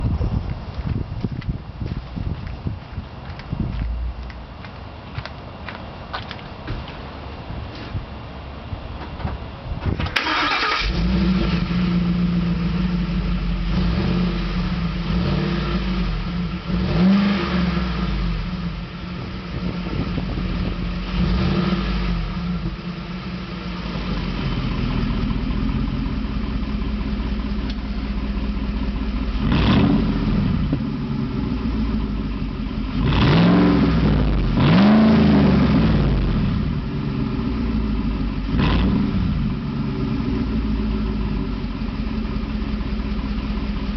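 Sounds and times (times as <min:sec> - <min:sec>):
truck engine idling with throttle blips: 0:00.0 - 0:43.9.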